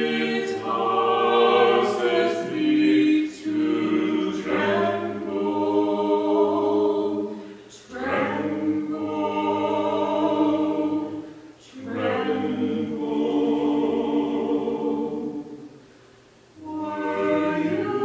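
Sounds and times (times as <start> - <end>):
vocal quartet singing in harmony: 0.0 - 18.0.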